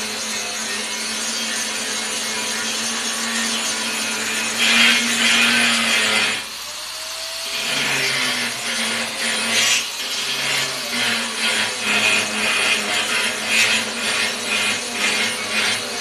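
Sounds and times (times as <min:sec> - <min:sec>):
grinder on steel: 0:00.0 - 0:16.0.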